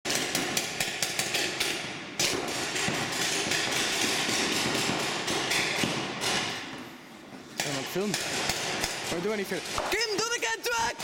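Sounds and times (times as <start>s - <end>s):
paintball markers firing: 0.1s - 6.7s, 7.6s - 10.3s.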